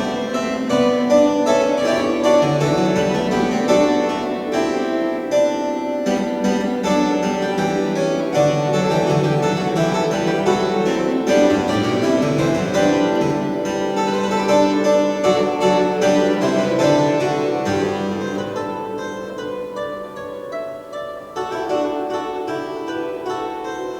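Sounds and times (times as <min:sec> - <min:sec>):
church organ playing fugue: 0:00.0 - 0:20.2.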